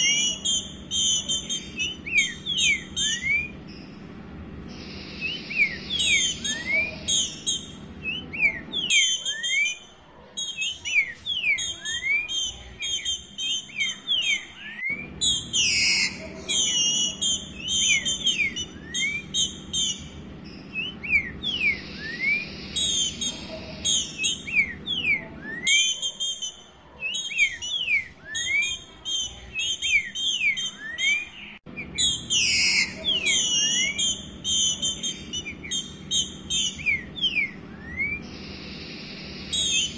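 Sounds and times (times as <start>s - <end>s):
bird whistling and chirping: 0.0s - 4.0s, 4.6s - 39.9s.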